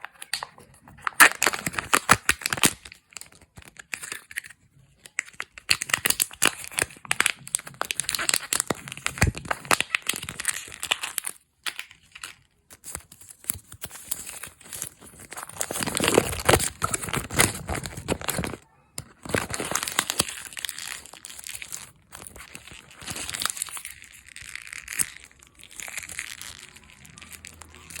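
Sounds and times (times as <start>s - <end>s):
candy wrappers crinkling: 0.0s - 28.0s.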